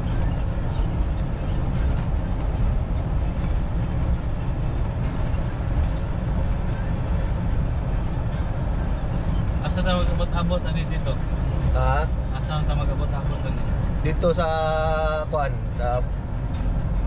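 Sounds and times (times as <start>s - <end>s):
road rumble: 0.0s - 17.0s
truck engine: 0.0s - 17.0s.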